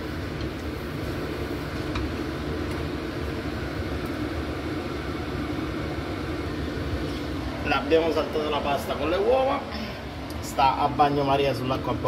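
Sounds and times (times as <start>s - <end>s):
mechanical hum and hiss: 0.0s - 12.0s.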